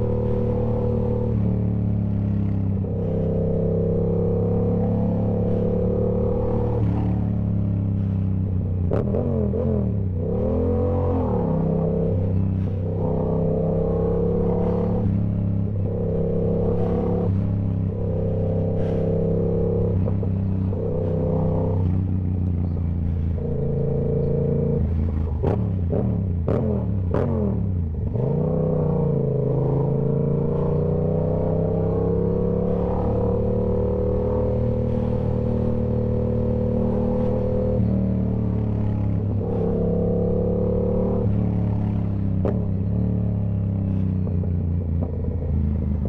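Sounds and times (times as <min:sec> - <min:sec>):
motorcycle engine cruising: 0:00.0 - 0:46.0.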